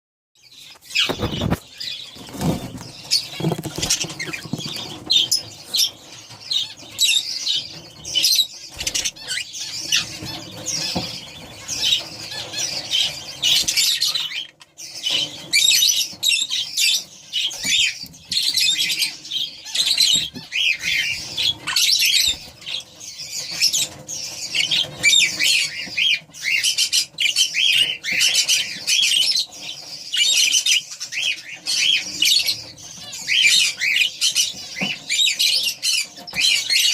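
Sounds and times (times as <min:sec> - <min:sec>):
budgerigars chattering: 0:00.6 - 0:36.9.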